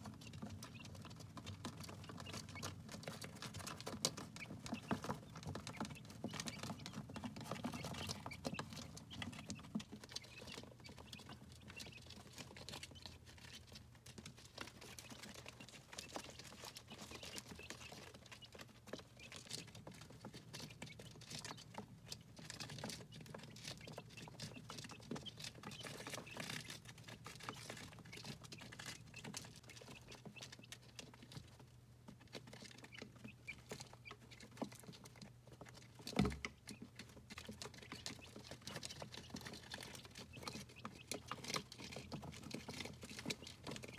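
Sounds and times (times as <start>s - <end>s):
chicks pecking at feeder: 0.0s - 43.9s.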